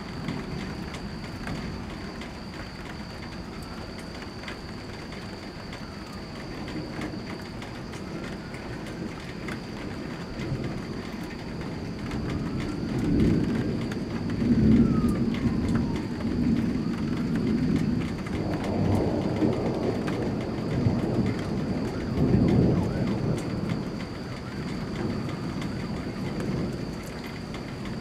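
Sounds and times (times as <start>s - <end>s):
steady rain: 0.0s - 28.0s
thunder rumbling: 0.0s - 28.0s.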